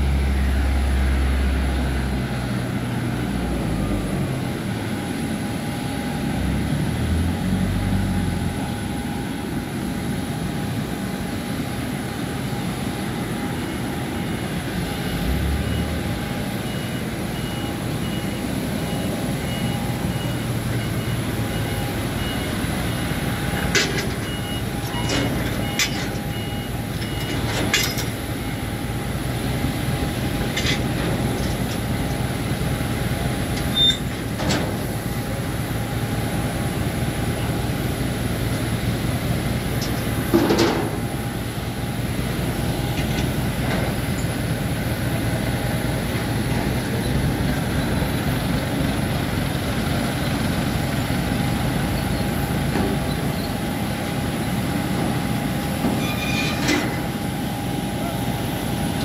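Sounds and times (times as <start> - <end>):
machinery hum: 0.0 - 59.0.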